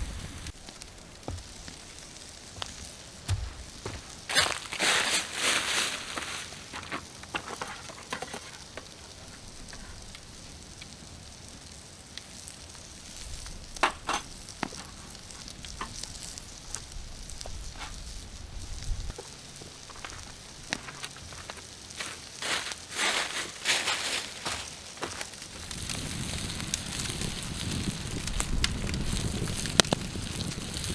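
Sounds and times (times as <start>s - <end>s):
burning wood crackling: 0.0s - 30.9s
food sizzling on a grill: 0.0s - 30.9s.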